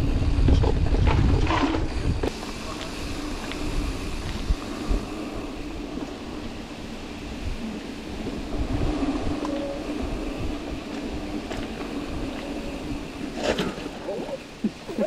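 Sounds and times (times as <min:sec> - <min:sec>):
constant hum: 0:00.0 - 0:15.0
tyres rumbling on dirt trail: 0:00.0 - 0:15.0
wind on microphone: 0:00.0 - 0:15.0.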